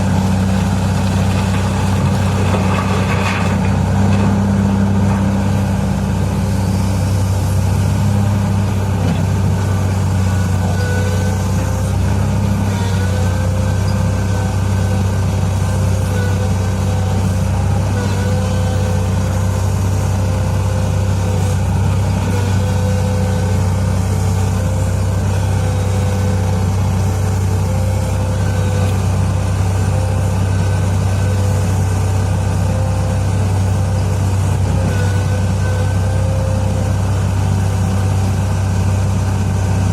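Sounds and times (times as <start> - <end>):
heavy diesel engines humming: 0.0 - 39.9.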